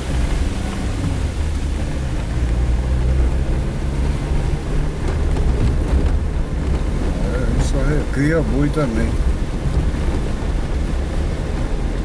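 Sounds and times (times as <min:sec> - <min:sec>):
car engine droning: 0:00.0 - 0:12.0
tyres rumbling on dirt road: 0:00.0 - 0:12.0.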